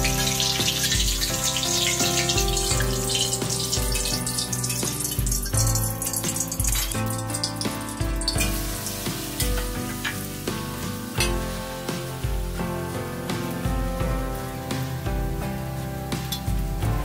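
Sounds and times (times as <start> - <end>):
background music with bass beat: 0.0 - 17.0
food sizzling in hot oil: 0.0 - 17.0.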